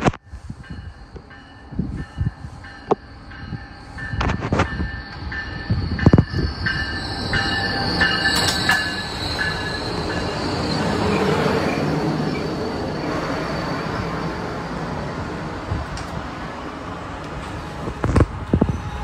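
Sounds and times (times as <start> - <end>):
train rail noise rushing: 0.0 - 19.0
high steady tones: 0.2 - 15.8.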